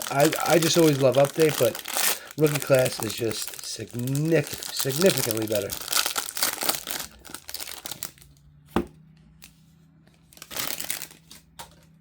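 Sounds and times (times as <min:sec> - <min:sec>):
plastic wrapper crinkling and tearing: 0:00.0 - 0:08.4, 0:10.2 - 0:11.8.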